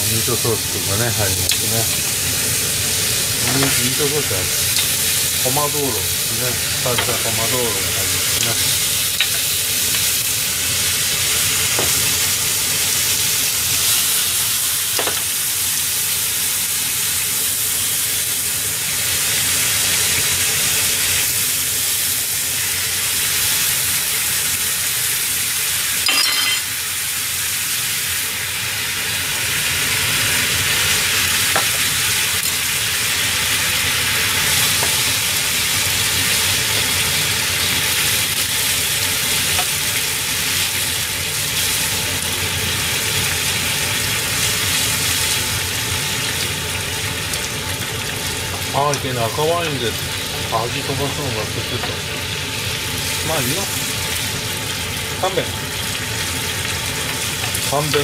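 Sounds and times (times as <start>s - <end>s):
meat sauce sizzling in a pan: 0.0s - 58.0s.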